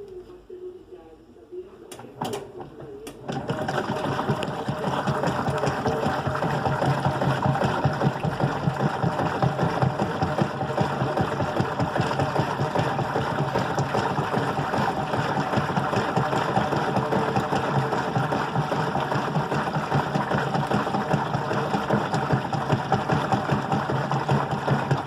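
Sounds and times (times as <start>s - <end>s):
washing machine churning: 1.8s - 25.0s.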